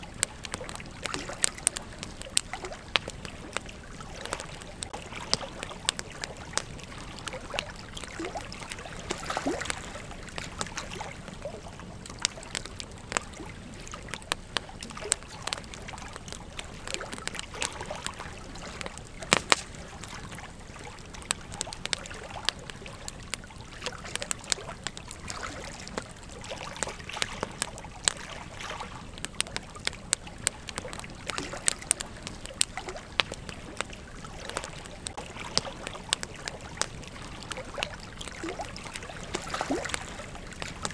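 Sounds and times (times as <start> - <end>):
campfire wood crackling and popping: 0.0 - 40.9
steady fire hiss: 0.0 - 40.9.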